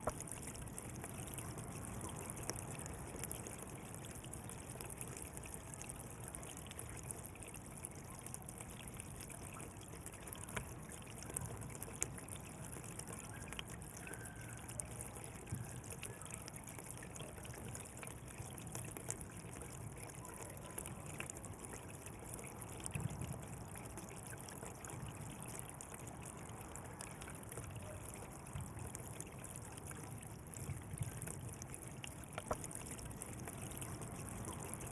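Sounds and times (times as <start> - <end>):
small water splashes: 0.0 - 34.9
water flowing and babbling: 0.0 - 34.9.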